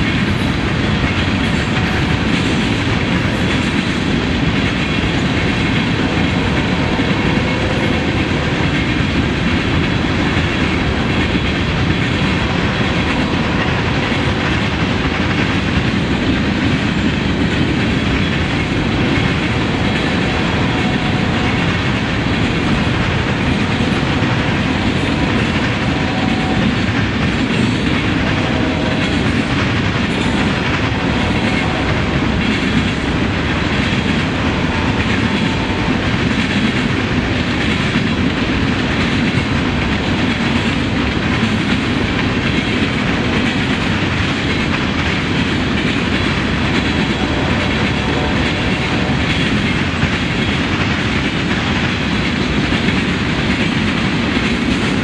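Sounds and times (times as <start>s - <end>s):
freight train cars rolling on rails: 0.0s - 55.0s.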